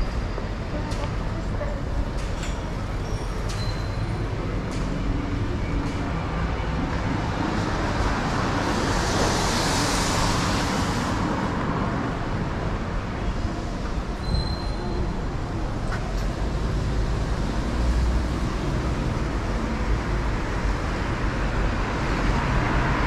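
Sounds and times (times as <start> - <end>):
street traffic hum: 0.0 - 23.0.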